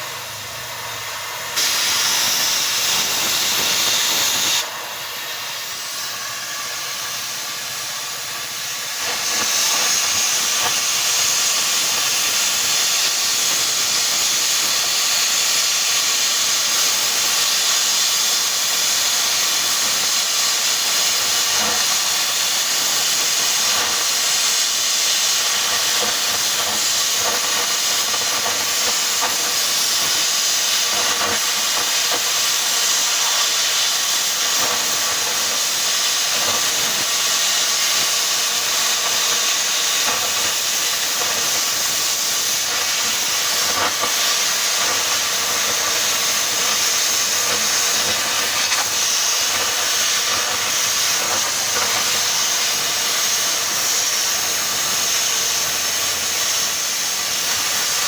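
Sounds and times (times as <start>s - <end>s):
loud steady hiss: 0.0s - 58.0s.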